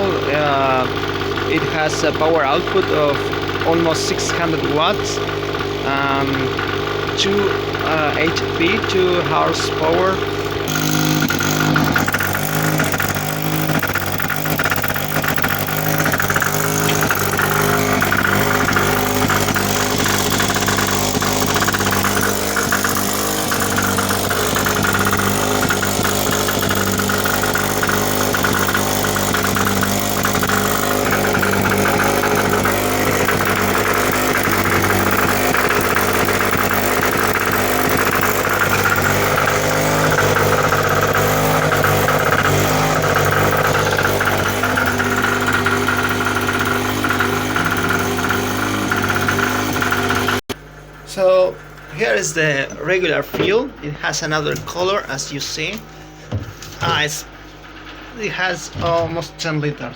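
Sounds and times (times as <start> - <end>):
small generator engine running: 0.0 - 59.9.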